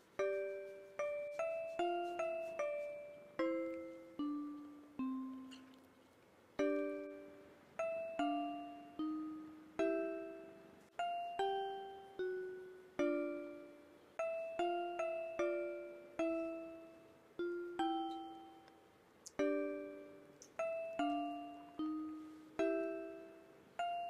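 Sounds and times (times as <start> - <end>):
slow plucked melody: 0.0 - 6.0, 6.6 - 18.7, 19.3 - 24.0.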